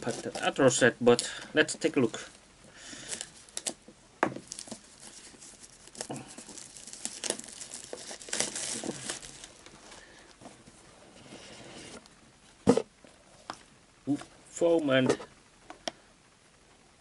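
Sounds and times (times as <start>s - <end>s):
cardboard packaging rustling: 0.0s - 14.3s.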